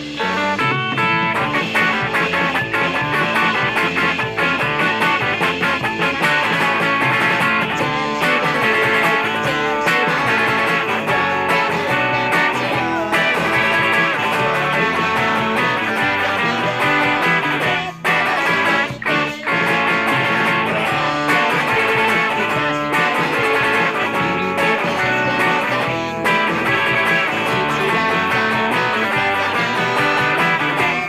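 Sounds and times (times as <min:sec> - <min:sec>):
electric guitar rock song: 0:00.0 - 0:31.0.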